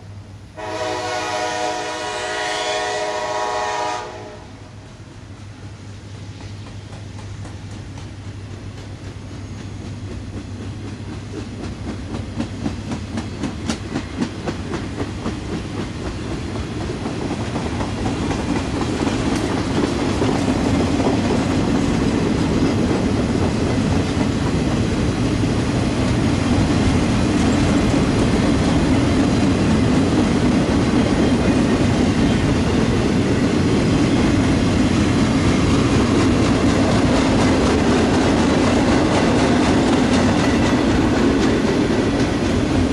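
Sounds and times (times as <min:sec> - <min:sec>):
freight train rumble: 0:00.0 - 0:42.9
train wheels clacking on rails: 0:05.9 - 0:42.9.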